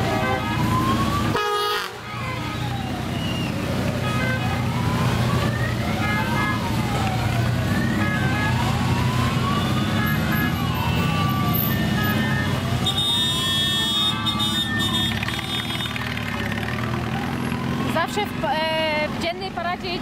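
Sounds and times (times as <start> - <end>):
siren wailing: 0.0 - 18.4
motorcycle engines rumbling: 0.0 - 20.0.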